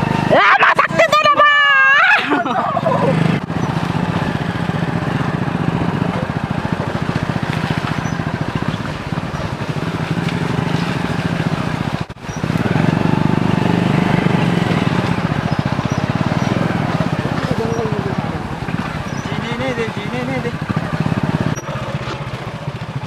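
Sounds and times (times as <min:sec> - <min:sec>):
motorcycle engine throbbing: 0:00.0 - 0:23.0.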